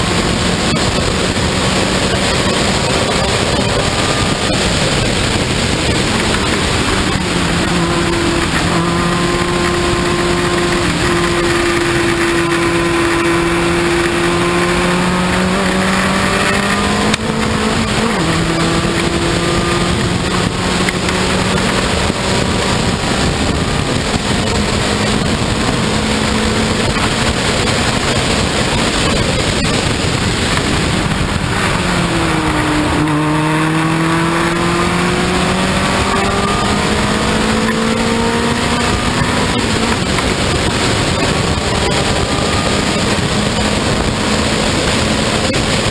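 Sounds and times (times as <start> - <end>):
heavy rush of noise: 0.0 - 45.9
race car engine at speed: 0.0 - 45.9.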